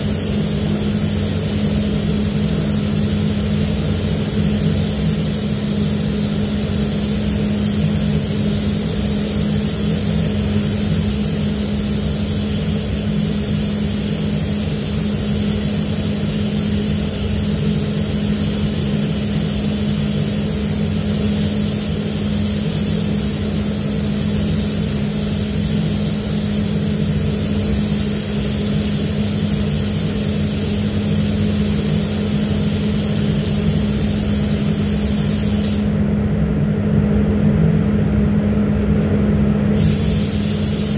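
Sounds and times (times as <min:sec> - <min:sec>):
hiss of rushing air: 0:00.0 - 0:36.0, 0:39.8 - 0:40.9
ventilation fans humming: 0:00.0 - 0:40.9.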